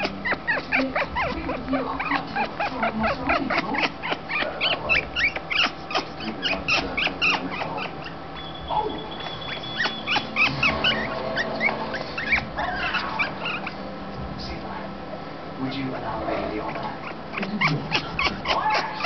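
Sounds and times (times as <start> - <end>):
parrot squeaking and chirping: 0.0 - 13.9, 16.5 - 19.0.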